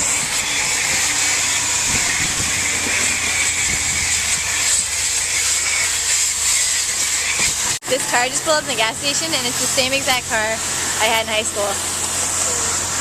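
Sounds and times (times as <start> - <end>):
car wash spray hiss: 0.0 - 13.0
low motor hum: 0.0 - 13.0.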